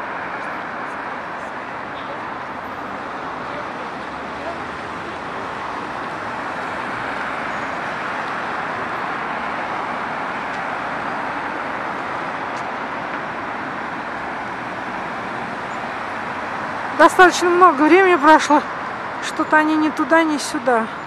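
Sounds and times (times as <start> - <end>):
busy road traffic: 0.0 - 21.0.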